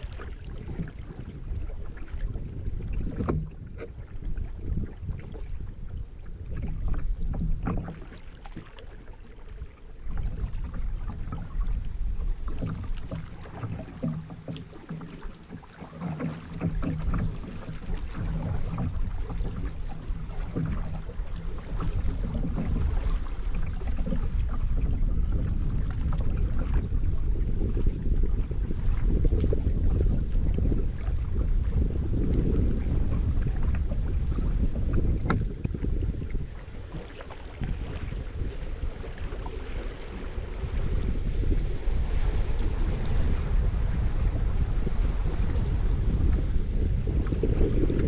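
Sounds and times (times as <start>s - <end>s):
paddle splashing in water: 0.0s - 48.0s
water lapping against hull: 0.0s - 48.0s.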